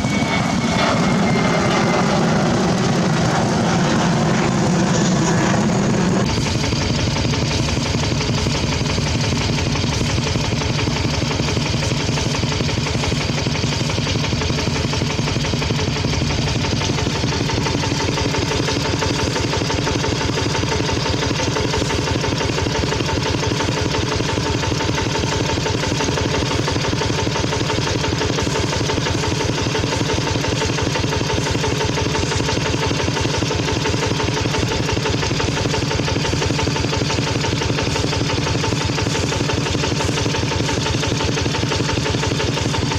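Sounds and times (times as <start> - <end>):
tractor engine chugging: 0.0 - 42.9.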